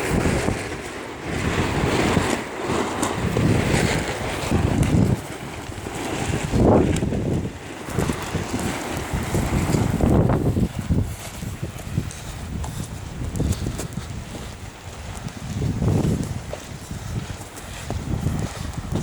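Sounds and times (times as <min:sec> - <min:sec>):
strong wind gusts buffeting microphone: 0:00.0 - 0:19.0.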